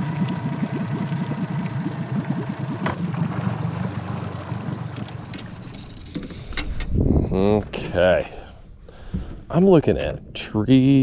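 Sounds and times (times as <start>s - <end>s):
outboard motor rumbling: 0.0s - 11.0s.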